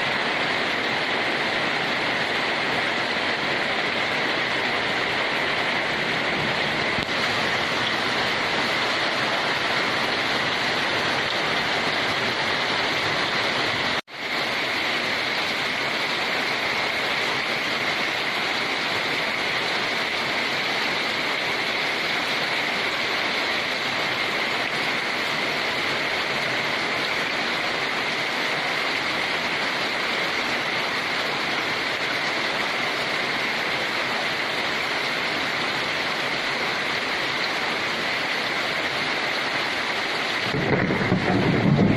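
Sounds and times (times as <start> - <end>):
steady downpour of rain: 0.0 - 41.9.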